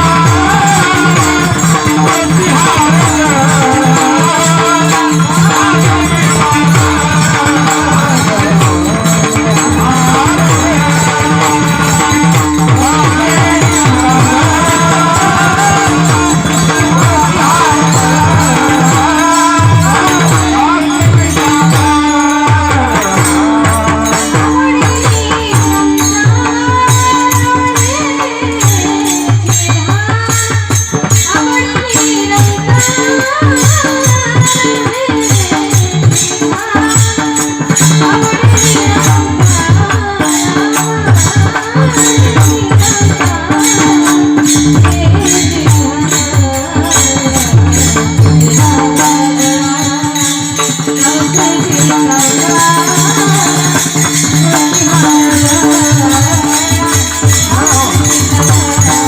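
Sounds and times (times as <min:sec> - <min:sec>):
fast metallic jingle: 0:00.0 - 0:59.0
hand drum: 0:00.0 - 0:59.0.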